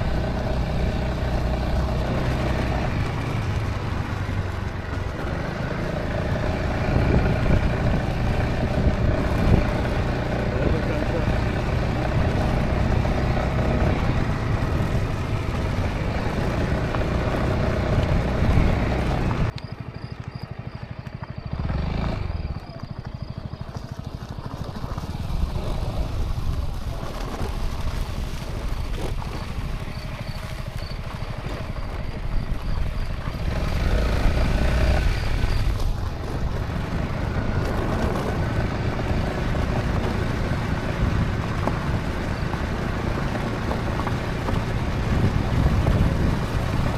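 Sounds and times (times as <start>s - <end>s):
scooter engine running: 0.0s - 46.9s
wind and road noise: 0.0s - 46.9s.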